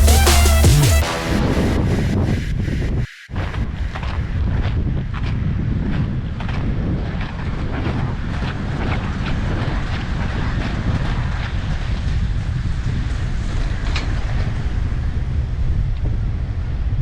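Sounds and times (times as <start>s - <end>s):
wind buffeting microphone: 1.4s - 17.0s.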